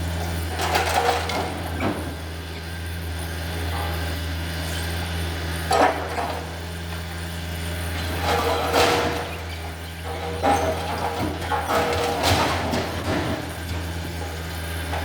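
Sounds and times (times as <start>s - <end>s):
excavator clatter: 0.0s - 15.0s
excavator diesel engine running: 0.0s - 15.0s.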